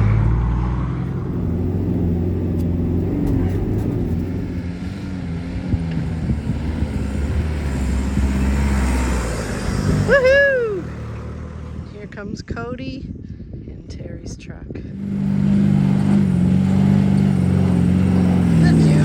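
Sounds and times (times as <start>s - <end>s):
vehicle engine humming: 0.0s - 12.5s, 14.8s - 19.0s.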